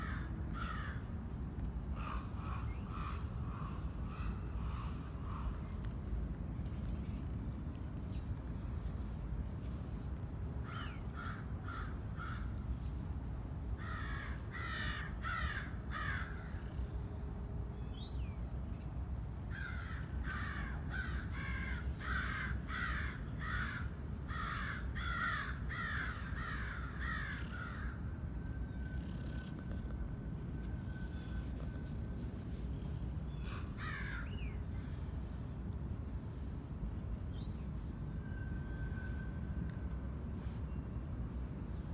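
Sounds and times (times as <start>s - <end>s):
low background noise: 0.0s - 41.9s.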